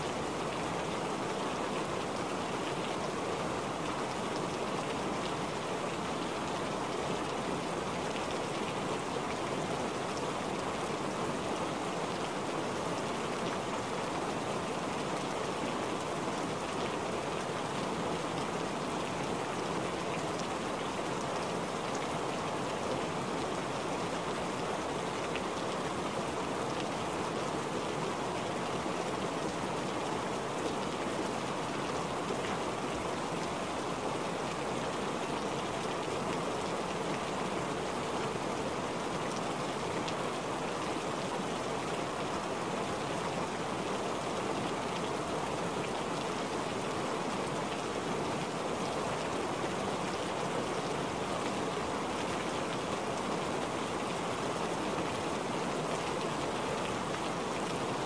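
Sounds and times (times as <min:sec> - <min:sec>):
rain falling on wet surface: 0:00.0 - 0:58.0.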